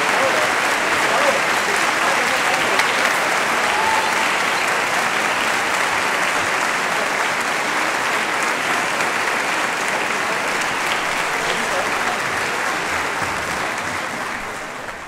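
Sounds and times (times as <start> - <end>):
audience applause: 0.0 - 15.0.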